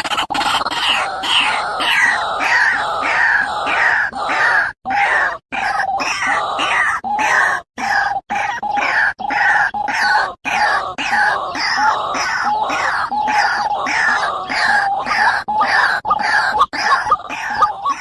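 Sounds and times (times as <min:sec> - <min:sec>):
birds calling harshly: 0:00.0 - 0:18.0.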